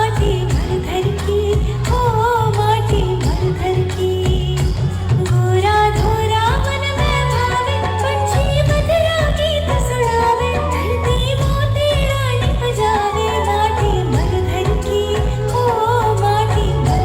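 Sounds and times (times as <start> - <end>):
steady beat and bass: 0.0 - 17.0.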